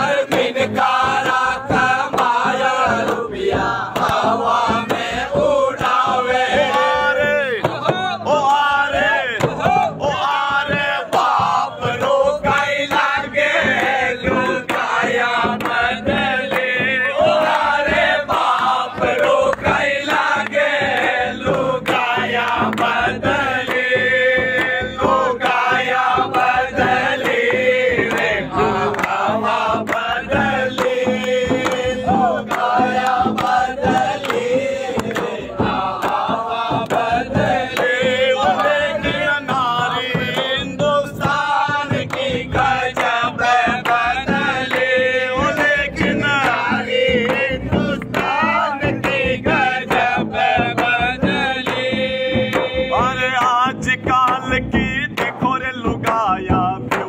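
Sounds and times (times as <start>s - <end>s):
men singing in chorus: 0.0s - 57.0s.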